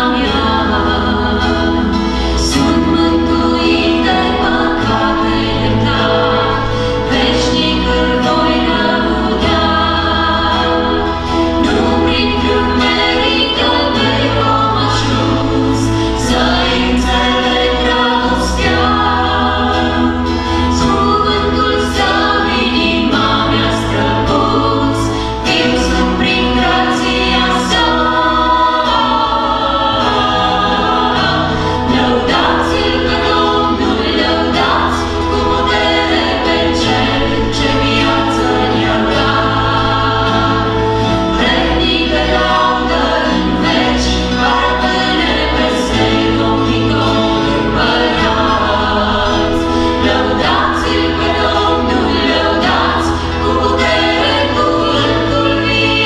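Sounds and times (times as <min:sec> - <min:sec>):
acoustic guitar: 0:00.0 - 0:56.0
bass line: 0:00.0 - 0:56.0
keyboard: 0:00.0 - 0:56.0
voices singing in harmony: 0:00.0 - 0:56.0.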